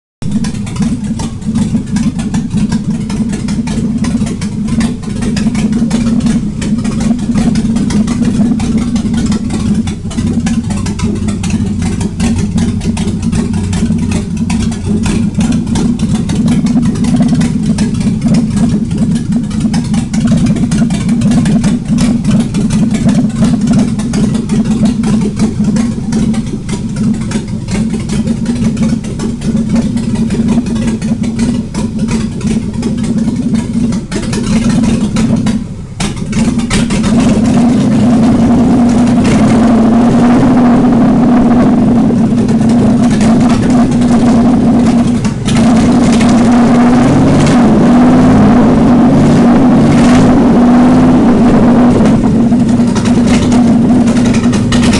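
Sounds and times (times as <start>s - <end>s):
engine running without exhaust: 0.2s - 54.9s.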